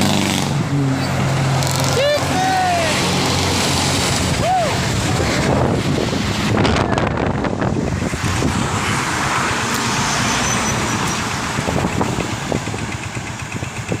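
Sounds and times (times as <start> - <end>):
tyre and wind noise: 0.0 - 14.0
vehicle engine rumble: 0.0 - 14.0.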